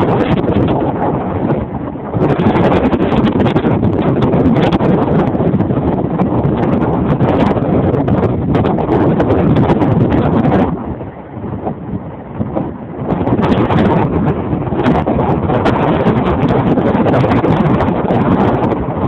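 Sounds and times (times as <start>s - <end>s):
storm waves crashing: 0.0s - 19.0s
wind buffeting microphone: 0.0s - 19.0s.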